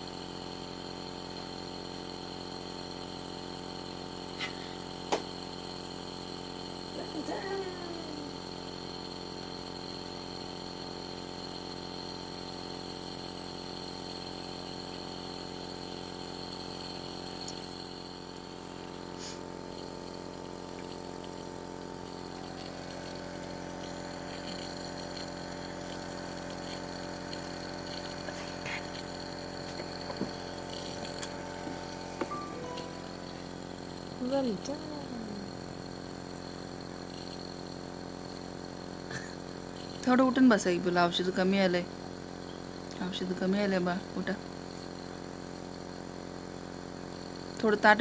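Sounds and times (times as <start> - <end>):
nebulizer pump motor humming: 0.0 - 48.0.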